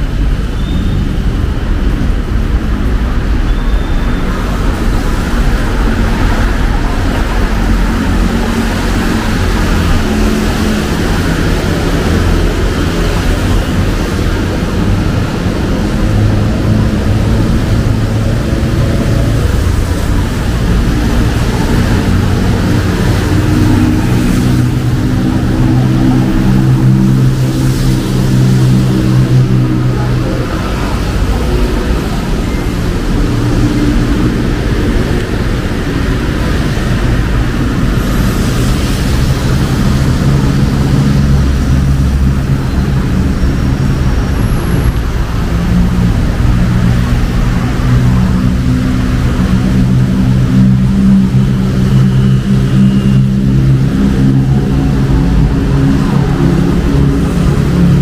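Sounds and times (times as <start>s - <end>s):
vehicle engines passing: 0.0s - 58.0s.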